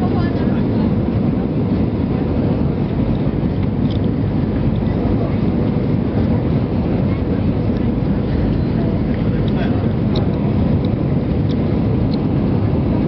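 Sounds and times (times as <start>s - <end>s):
airplane cabin roar: 0.0s - 13.0s.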